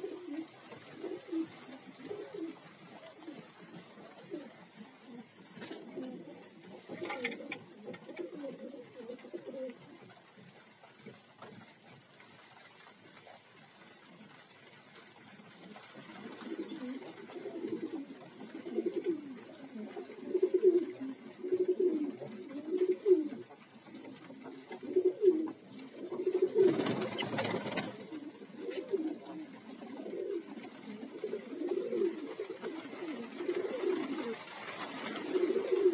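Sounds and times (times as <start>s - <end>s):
pigeons cooing: 0.0s - 10.2s, 15.6s - 35.9s.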